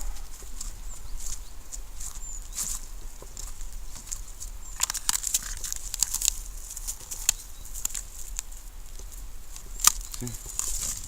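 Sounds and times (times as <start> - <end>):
footsteps on dry forest floor: 0.0 - 11.0.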